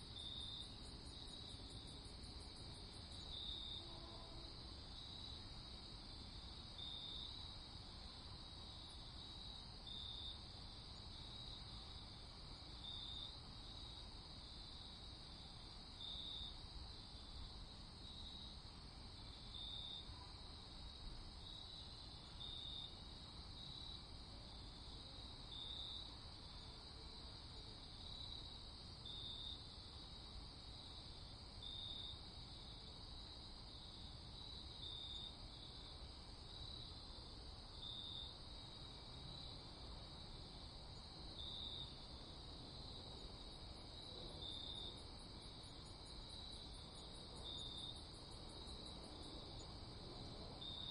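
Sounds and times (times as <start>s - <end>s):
crickets chirping: 0.0s - 50.9s
faint low hiss: 0.0s - 50.9s.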